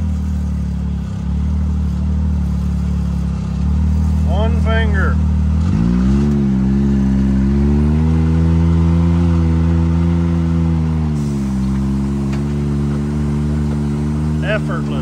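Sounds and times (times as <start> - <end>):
engine on light throttle: 0.0 - 15.0.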